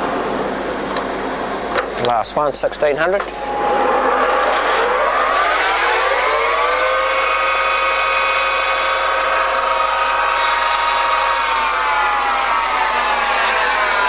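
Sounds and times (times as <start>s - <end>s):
lathe gear whine: 2.6s - 14.0s.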